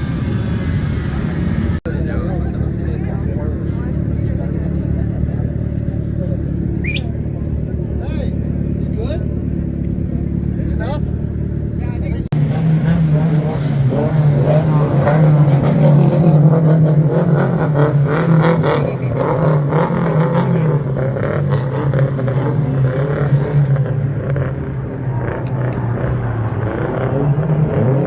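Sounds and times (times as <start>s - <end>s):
loud car engine running: 0.0s - 28.0s.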